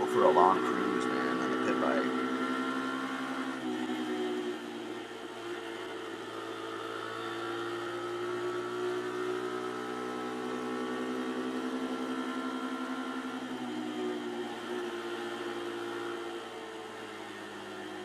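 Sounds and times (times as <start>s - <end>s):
pit bike engine running: 0.0s - 18.0s.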